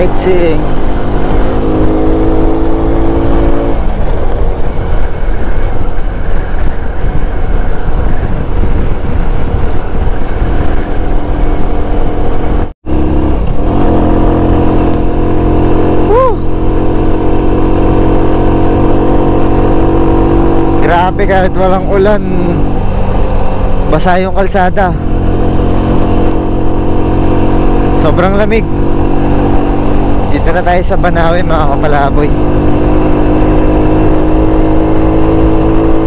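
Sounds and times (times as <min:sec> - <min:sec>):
wind on microphone: 0:00.0 - 0:30.5
motorcycle engine running: 0:00.0 - 0:36.0.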